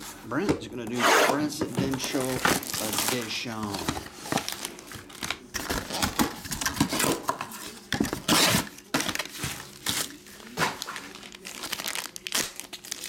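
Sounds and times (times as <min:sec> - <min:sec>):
plastic wrap crinkling: 0:01.7 - 0:13.0.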